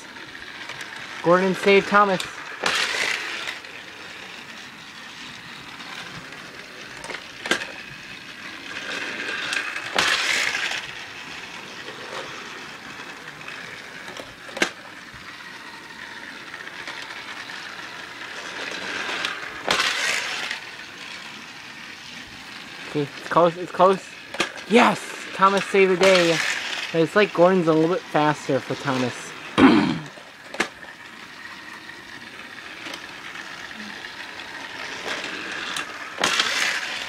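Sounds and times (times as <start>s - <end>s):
toy train motors whirring: 0.0s - 37.0s.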